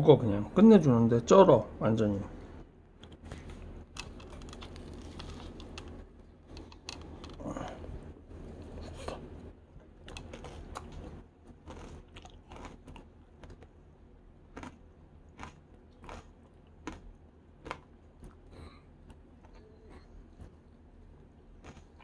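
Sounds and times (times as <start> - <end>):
crunchy chewing: 3.0 - 20.6, 21.5 - 22.0.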